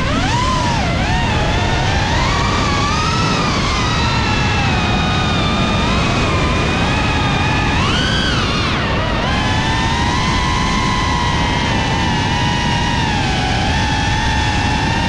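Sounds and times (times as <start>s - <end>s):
drone motors whining: 0.0s - 15.0s
steady rushing noise: 0.0s - 15.0s.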